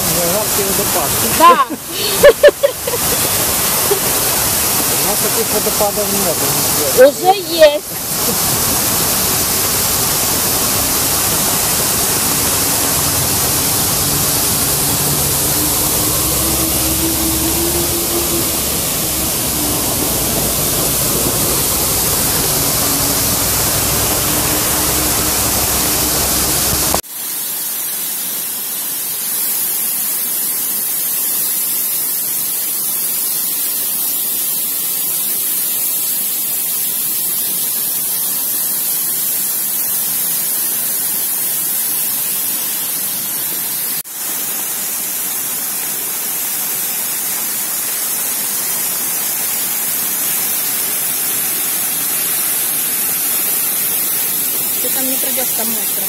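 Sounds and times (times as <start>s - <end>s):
waterfall rushing: 0.0s - 30.1s, 32.1s - 56.0s.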